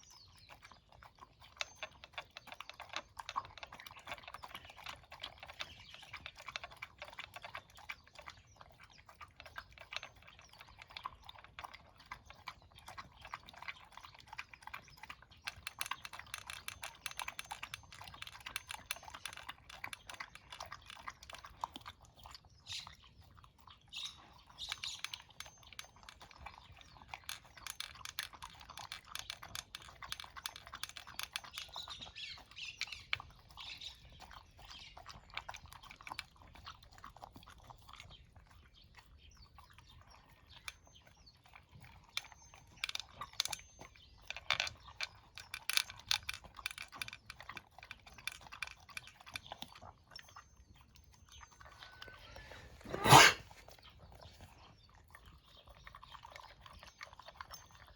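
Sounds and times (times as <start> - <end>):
pet crunching dry food: 0.2 - 57.9.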